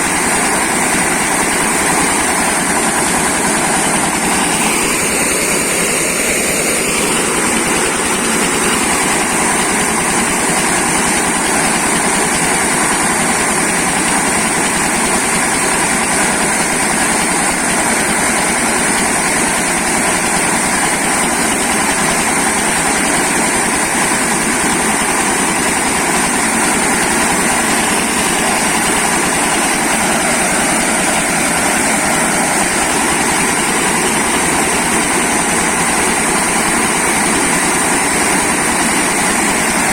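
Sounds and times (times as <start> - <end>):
milling machine running: 0.0 - 39.9.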